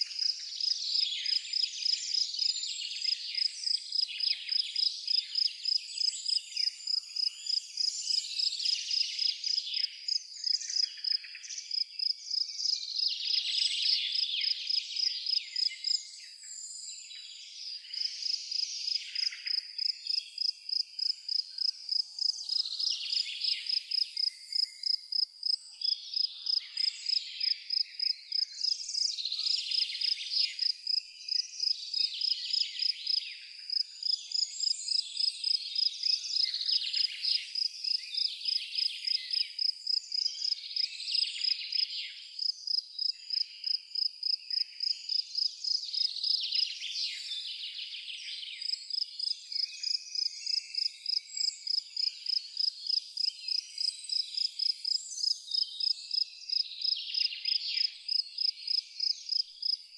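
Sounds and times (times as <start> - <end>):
cricket chirping: 0.0 - 16.9, 17.9 - 46.7, 48.6 - 59.9
birds singing: 0.0 - 59.9.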